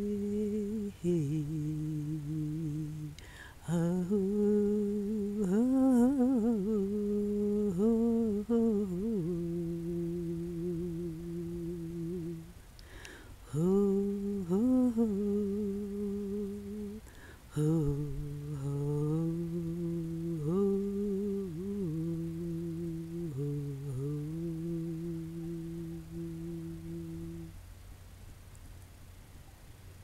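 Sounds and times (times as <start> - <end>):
person humming: 0.0 - 27.6.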